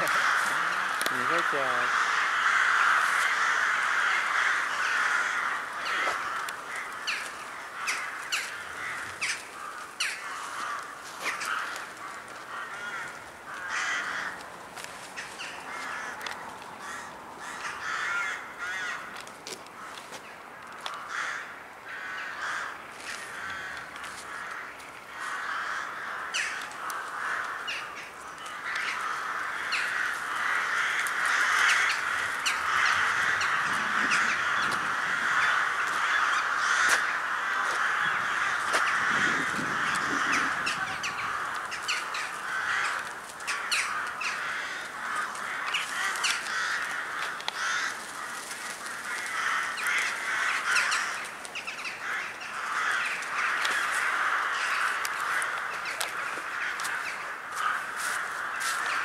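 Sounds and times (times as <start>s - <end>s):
flock of crows cawing: 0.0s - 59.0s.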